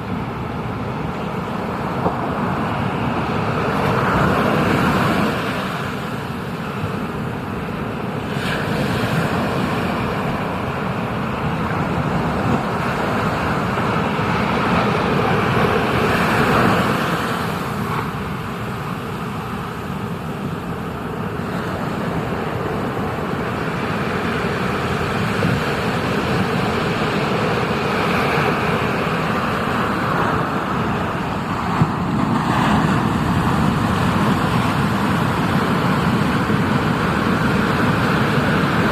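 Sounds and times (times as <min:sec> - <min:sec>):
ocean surf rushing: 0:00.0 - 0:38.9
wind on microphone: 0:00.0 - 0:38.9.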